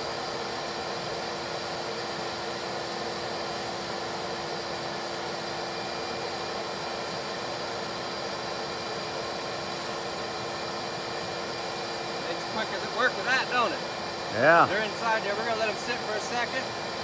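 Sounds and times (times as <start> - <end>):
vacuum motor humming and whining: 0.0 - 17.0.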